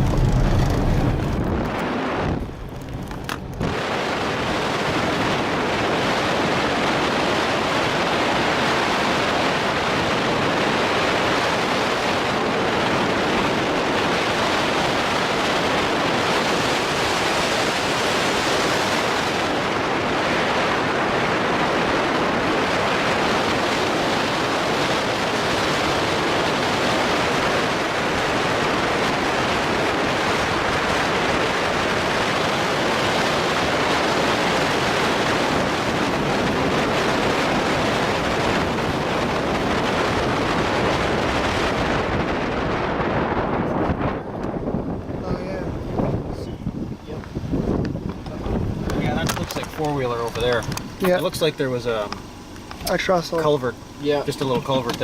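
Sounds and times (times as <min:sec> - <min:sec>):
vehicle road and wind noise: 0:00.0 - 0:55.0.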